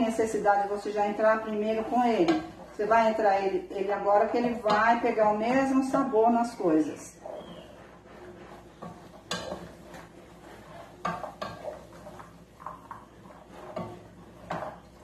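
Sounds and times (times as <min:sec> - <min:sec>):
wooden spoon scraping pot: 0:00.0 - 0:15.0.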